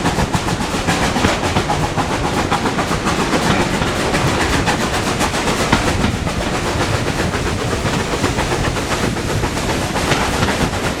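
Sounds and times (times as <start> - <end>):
train rumbling on rails: 0.0 - 11.0
wheels clattering over rail joints: 0.0 - 11.0.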